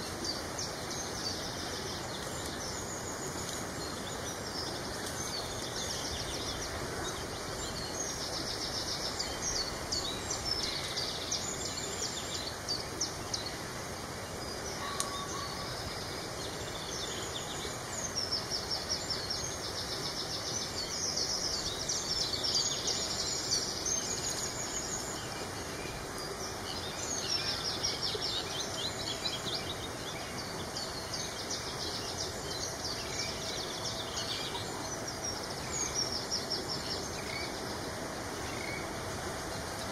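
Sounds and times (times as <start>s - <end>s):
outdoor background hiss: 0.0s - 39.9s
songbirds singing and calling: 0.0s - 39.9s.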